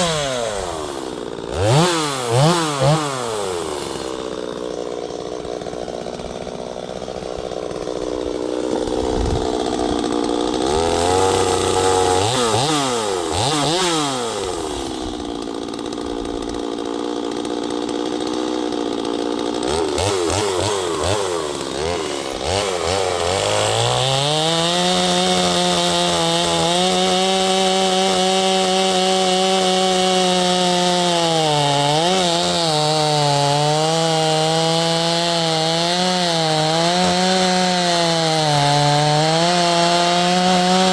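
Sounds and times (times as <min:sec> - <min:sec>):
chainsaw cutting wood: 0:00.0 - 0:40.9
chainsaw revving: 0:00.0 - 0:40.9.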